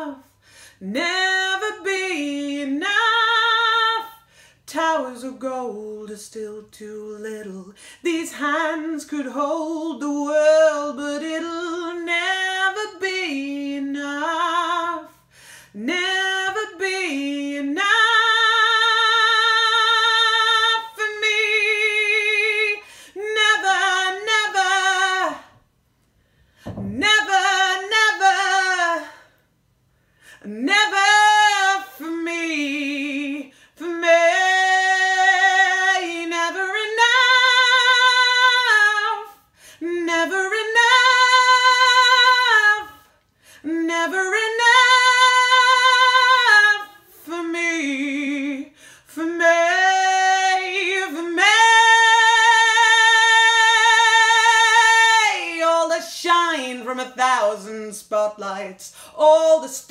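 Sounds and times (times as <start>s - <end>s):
woman singing unaccompanied: 0.0s - 25.6s, 26.7s - 29.4s, 30.4s - 59.9s.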